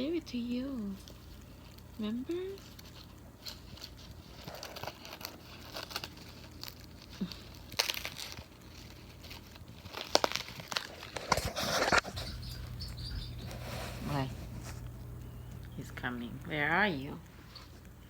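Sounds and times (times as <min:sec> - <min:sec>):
toy crinkling and rustling: 0:00.0 - 0:18.0.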